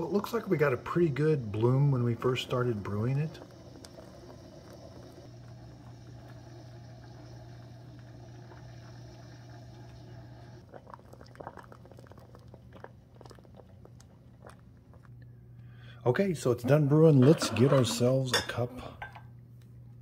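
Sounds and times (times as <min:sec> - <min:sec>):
coffee maker water gurgling: 0:00.0 - 0:15.3, 0:16.0 - 0:18.6
low steady hum: 0:00.0 - 0:20.0.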